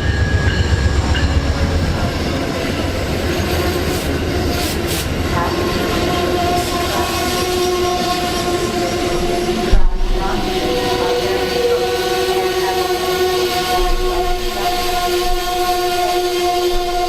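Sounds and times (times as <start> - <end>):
passenger train rumbling: 0.0 - 17.0
sustained tone: 0.0 - 17.0.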